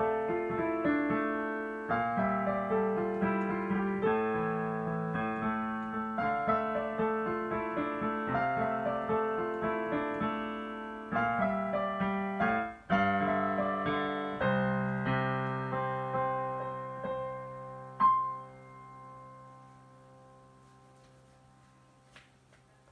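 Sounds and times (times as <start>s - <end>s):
digital piano playing: 0.0s - 22.1s.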